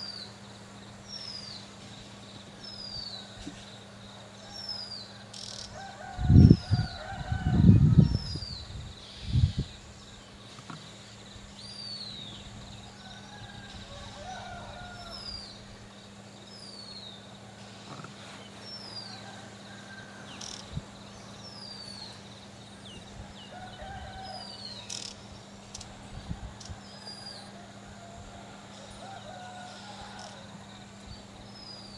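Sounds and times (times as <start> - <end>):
birds chirping and warbling: 0.0 - 31.9.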